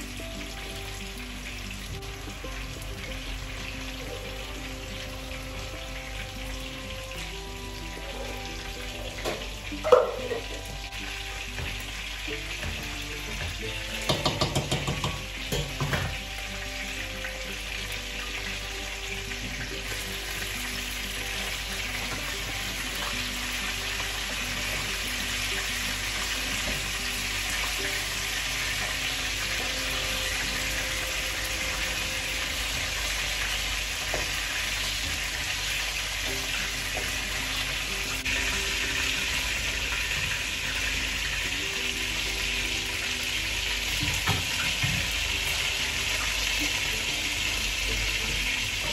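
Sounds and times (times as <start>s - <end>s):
meatballs sizzling in oil: 0.0s - 48.9s
tongs turning food in pan: 0.0s - 48.9s.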